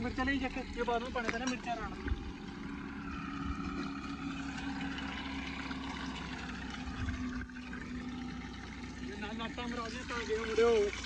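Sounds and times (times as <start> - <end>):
engine humming steadily: 0.0 - 11.0.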